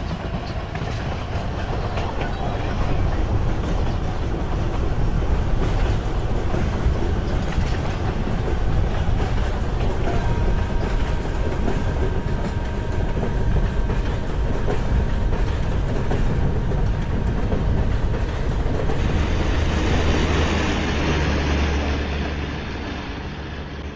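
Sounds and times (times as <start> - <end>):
train rumbling and rattling on rails: 0.0 - 23.9.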